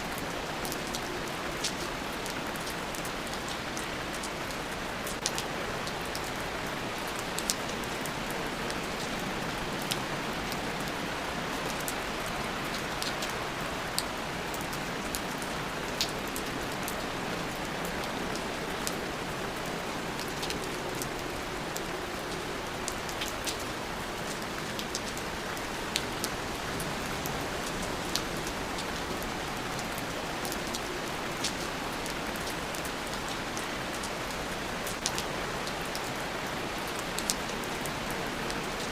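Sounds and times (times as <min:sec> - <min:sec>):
steady rain hissing: 0:00.0 - 0:38.9
raindrops ticking close by: 0:00.1 - 0:38.9.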